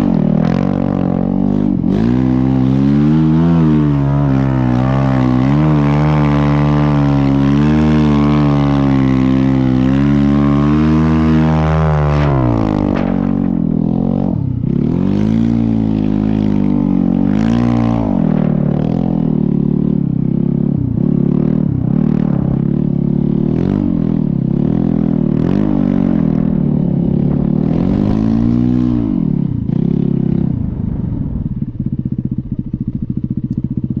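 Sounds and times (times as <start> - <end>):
dirt bike engine revving: 0.0 - 33.4.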